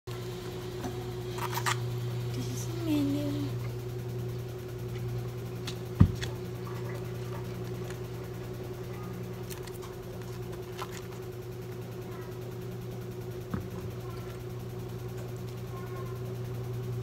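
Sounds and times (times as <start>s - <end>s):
low electrical hum: 0.1s - 17.0s.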